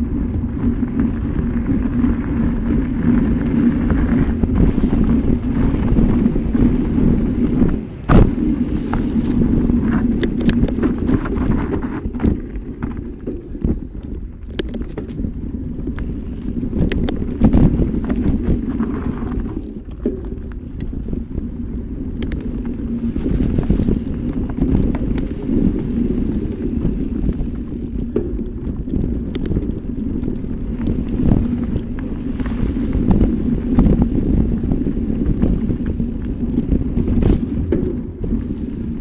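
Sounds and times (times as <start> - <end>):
bike tyres rumbling on trail: 0.0 - 39.0
wind buffeting microphone: 0.0 - 39.0.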